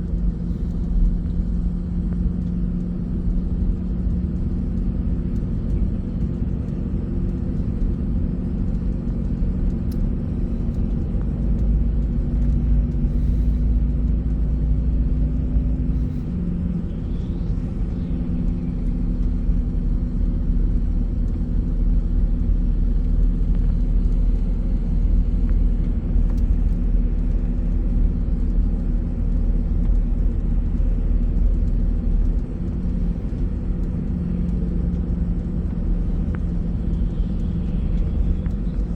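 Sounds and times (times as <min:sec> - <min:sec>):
bus engine running: 0:00.0 - 0:38.9
road noise rumble: 0:00.0 - 0:38.9.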